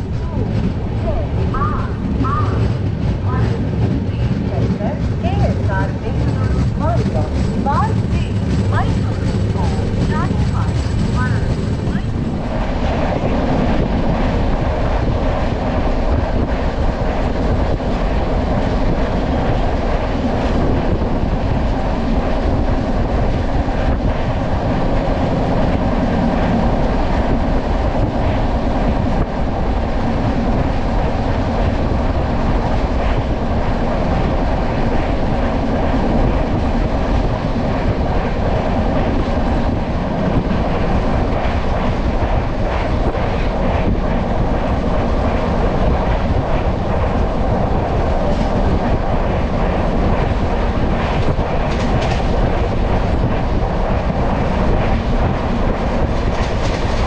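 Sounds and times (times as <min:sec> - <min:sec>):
passenger train rumbling: 0:00.0 - 0:57.0.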